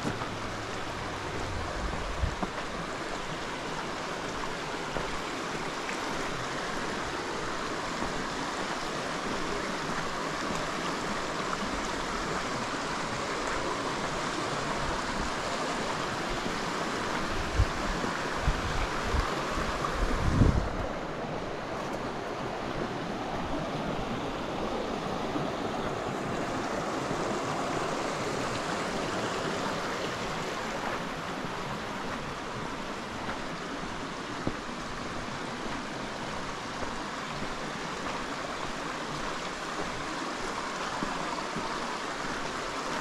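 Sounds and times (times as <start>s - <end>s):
flowing water rushing: 0.0s - 43.0s.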